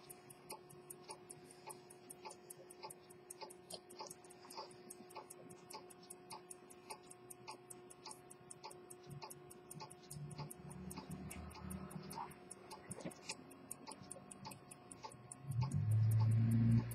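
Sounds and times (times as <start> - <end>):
pocket watch ticking: 0.0 - 16.9.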